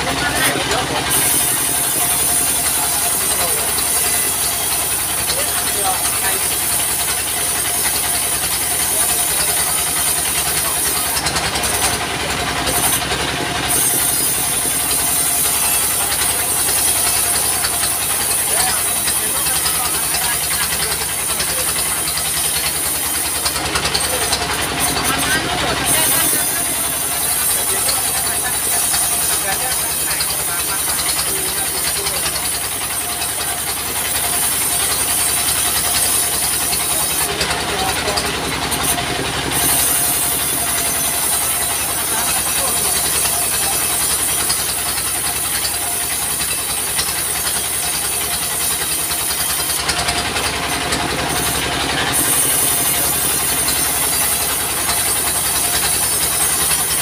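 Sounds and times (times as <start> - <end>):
band saw cutting timber: 0.0 - 57.0
diesel engine running: 0.0 - 57.0.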